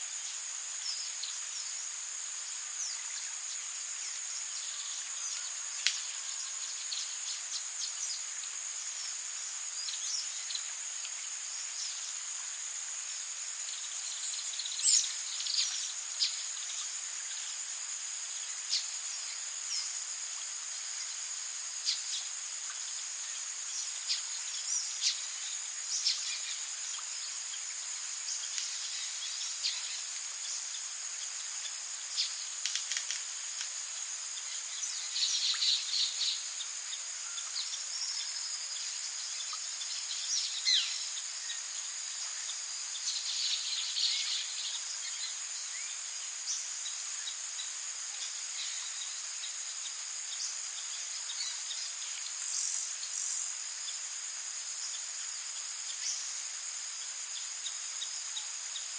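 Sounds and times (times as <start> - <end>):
high-pitched insect drone: 0.1 - 58.9.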